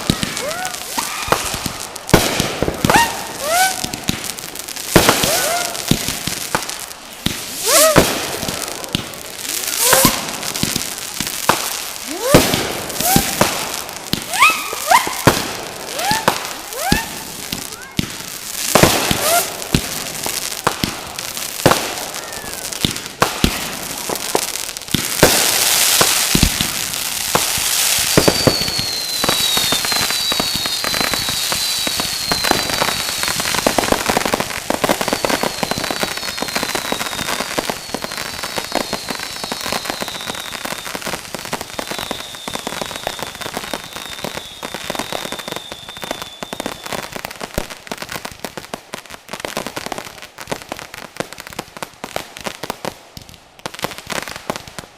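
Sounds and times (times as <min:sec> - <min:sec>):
firework whistles: 0:00.0 - 0:48.2
fireworks crackling and banging: 0:00.0 - 0:54.9.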